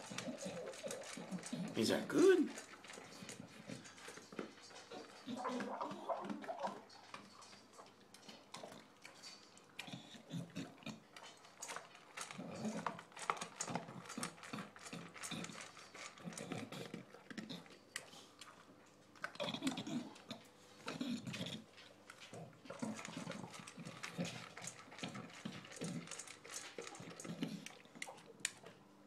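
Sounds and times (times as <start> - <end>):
dog crunching kibble in metal bowl: 0.0 - 28.9.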